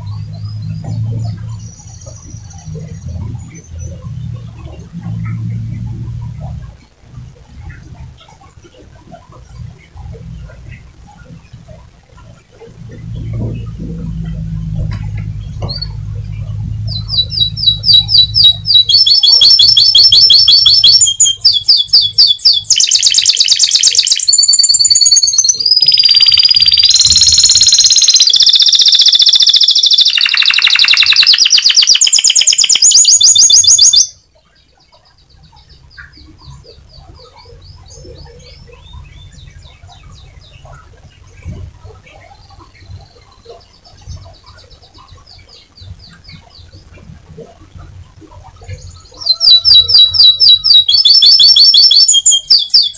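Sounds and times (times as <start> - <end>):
canary singing trills: 0.0 - 52.9
faint soft twittering: 0.0 - 52.9.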